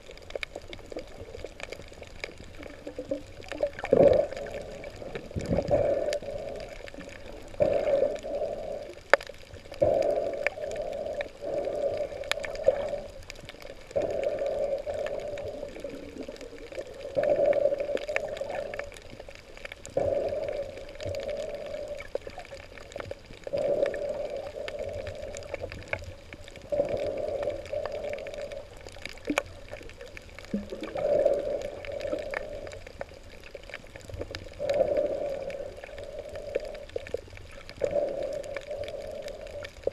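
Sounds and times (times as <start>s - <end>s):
underwater water gurgling and sloshing: 0.0s - 39.9s.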